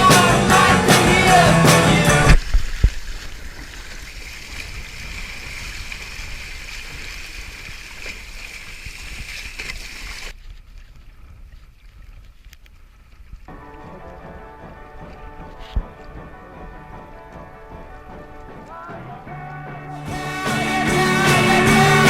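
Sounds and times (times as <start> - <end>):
low wind rumble: 0.0 - 20.2
water splashing along a hull: 0.0 - 22.0.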